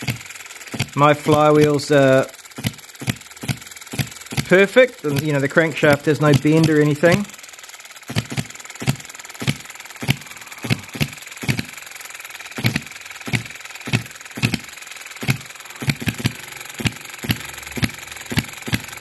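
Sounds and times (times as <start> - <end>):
light mechanical rattle: 0.0 - 19.0
model engine firing pops: 0.0 - 19.0.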